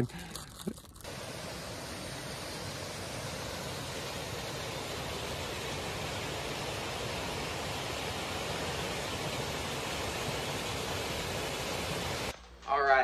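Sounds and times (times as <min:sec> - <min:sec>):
stream cascading over rocks: 0:01.0 - 0:12.3.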